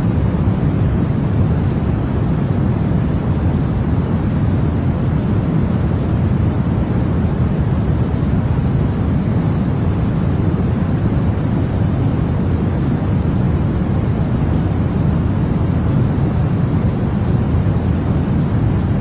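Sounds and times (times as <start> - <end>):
low rumbling white noise: 0.0 - 19.0.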